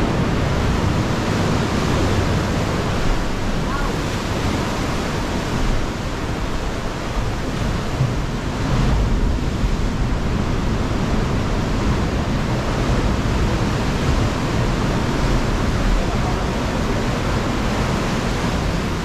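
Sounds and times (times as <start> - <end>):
ocean surf rushing in a cave: 0.0 - 19.0.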